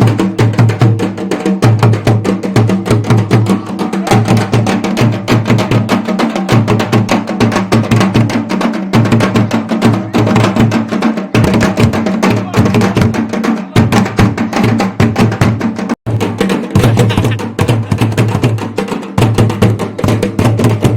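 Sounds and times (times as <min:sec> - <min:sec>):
fast percussion strikes: 0:00.0 - 0:20.9.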